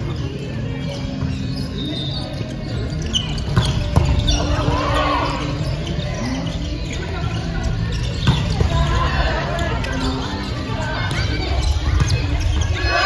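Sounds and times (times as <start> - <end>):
players calling and shouting: 0.0 - 13.0.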